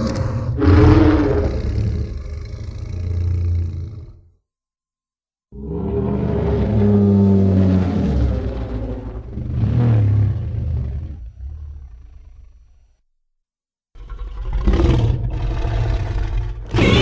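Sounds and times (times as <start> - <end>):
deep monster roar: 0.0 - 4.3, 5.5 - 12.6, 14.0 - 17.0.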